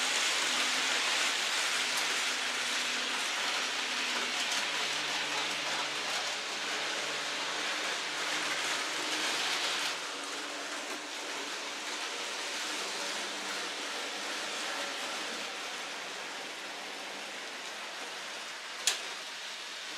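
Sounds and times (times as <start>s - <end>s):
model train wheels hissing on rail: 0.0s - 19.9s.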